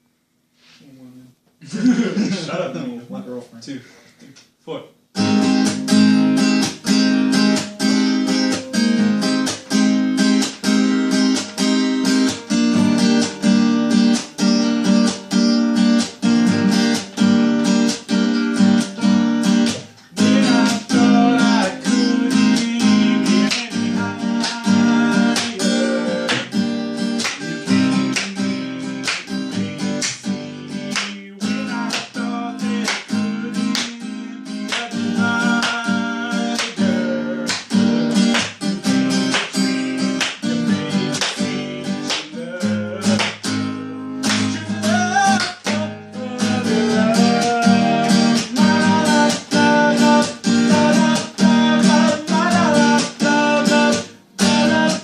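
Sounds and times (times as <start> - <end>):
acoustic guitar strumming: 5.1 - 55.0.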